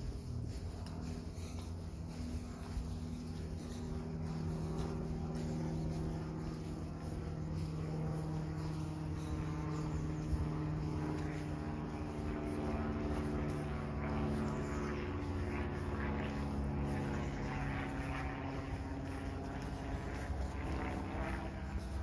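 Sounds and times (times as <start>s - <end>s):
low engine drone: 0.0s - 22.0s.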